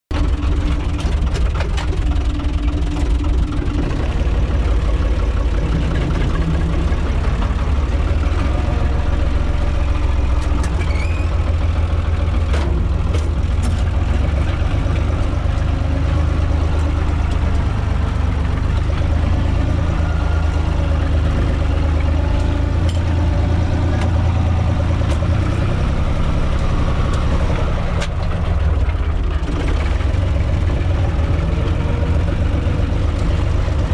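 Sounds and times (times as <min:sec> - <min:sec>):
sharp knocks and rattles: 0:00.1 - 0:33.9
tractor diesel engine running: 0:00.1 - 0:33.9.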